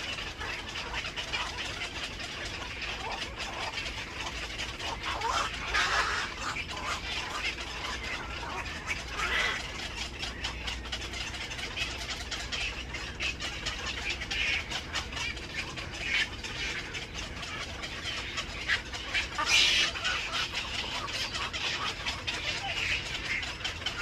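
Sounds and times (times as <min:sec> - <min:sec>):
birds harsh calls: 0:00.0 - 0:24.0.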